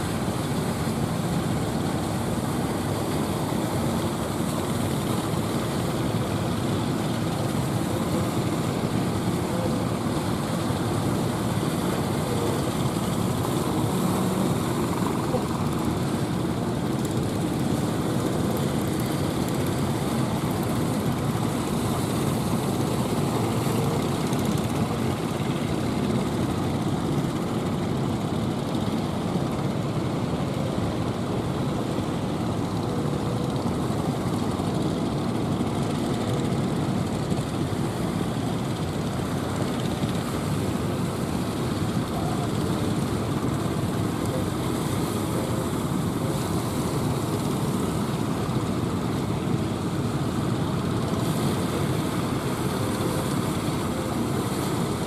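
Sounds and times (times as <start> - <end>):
boat engines: 0.0 - 55.0
rough surf: 0.0 - 55.0.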